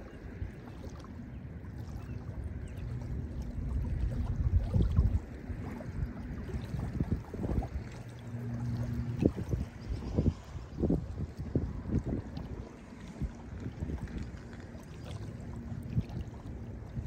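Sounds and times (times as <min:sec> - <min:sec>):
waves lapping on sandy shore: 0:00.0 - 0:17.0.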